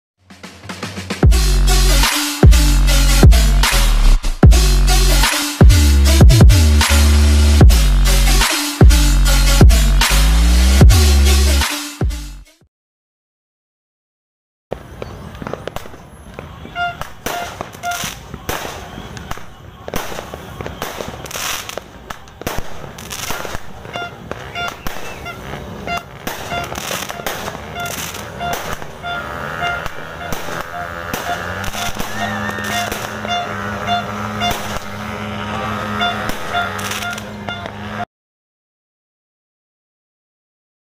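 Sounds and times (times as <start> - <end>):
fireworks shots and bursts: 0.2 - 12.0, 14.7 - 38.1.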